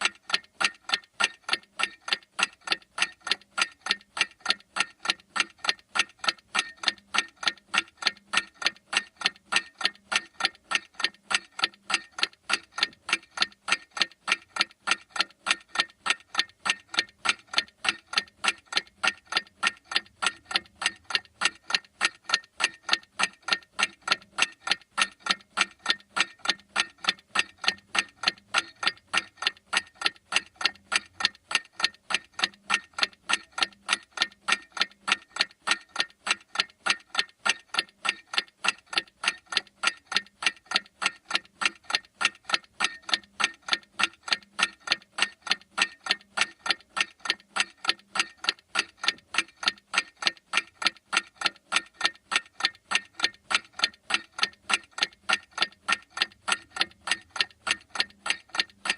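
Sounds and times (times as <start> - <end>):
clock ticking: 0.0 - 58.9.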